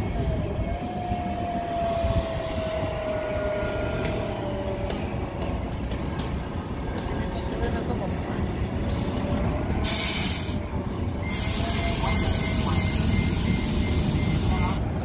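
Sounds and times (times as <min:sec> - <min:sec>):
bus pulling away with whine: 0:00.0 - 0:15.0.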